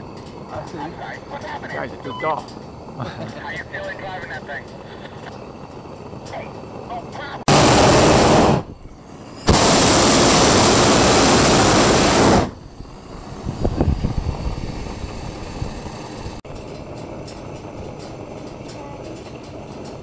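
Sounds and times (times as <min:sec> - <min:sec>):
propane burner blast: 0:00.0 - 0:20.0.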